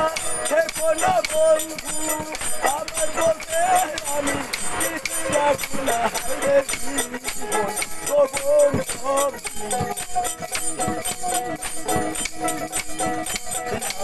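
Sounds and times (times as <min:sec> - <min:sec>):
man singing: 0:00.0 - 0:14.0
plucked lute: 0:00.0 - 0:14.0
small hand cymbals jingling: 0:00.0 - 0:14.0
wooden clappers clicking: 0:00.0 - 0:14.0.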